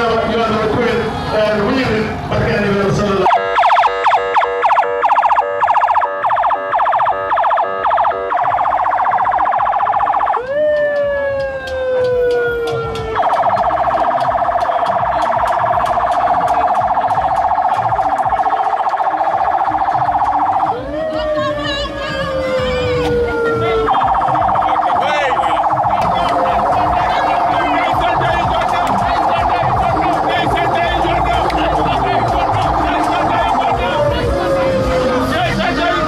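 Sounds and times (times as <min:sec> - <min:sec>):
electronic vehicle siren: 0:03.2 - 0:36.0.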